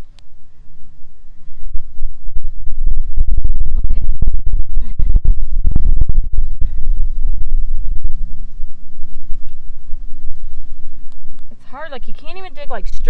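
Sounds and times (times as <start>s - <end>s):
microphone wind buffeting: 0.0s - 13.0s.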